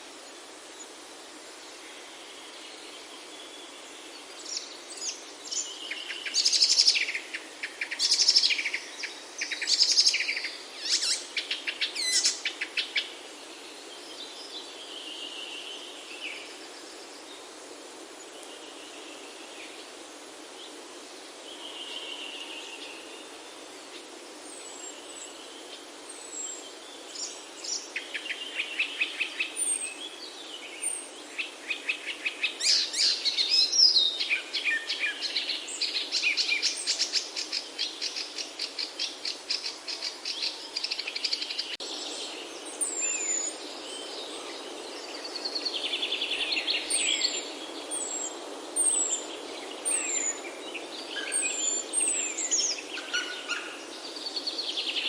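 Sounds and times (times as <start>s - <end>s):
background hiss: 0.0s - 55.0s
songbirds chirping and trilling: 0.0s - 55.0s.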